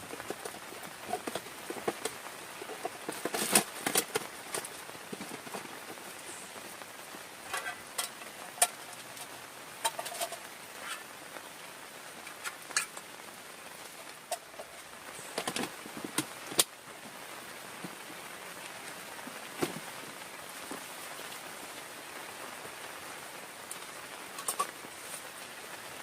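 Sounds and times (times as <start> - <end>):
large raindrops tapping: 0.0 - 26.0
steady rain falling: 0.0 - 26.0.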